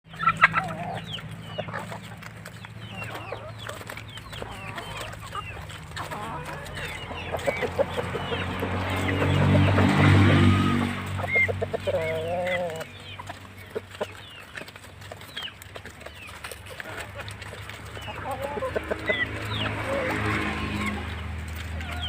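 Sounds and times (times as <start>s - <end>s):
chickens clucking and peeping: 0.0s - 22.0s.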